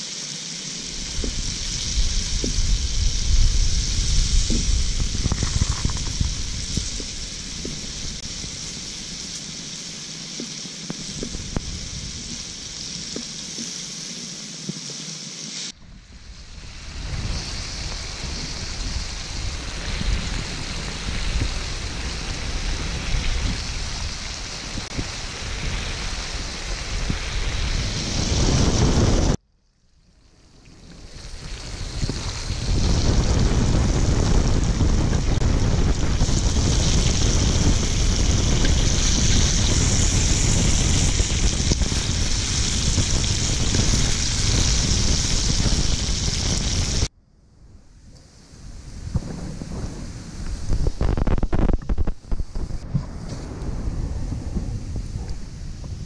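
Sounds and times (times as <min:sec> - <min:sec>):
food sizzling in hot oil: 0:00.0 - 0:29.4, 0:30.6 - 0:47.1.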